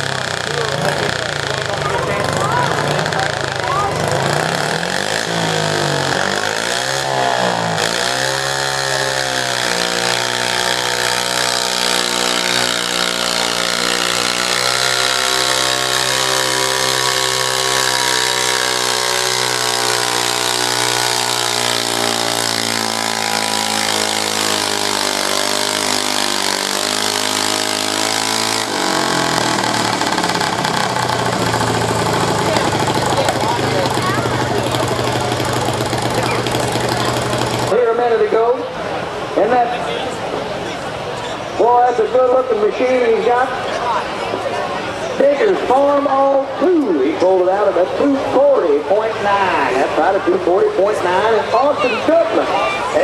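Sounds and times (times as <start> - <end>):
tractor engine revving: 0.0 - 53.0.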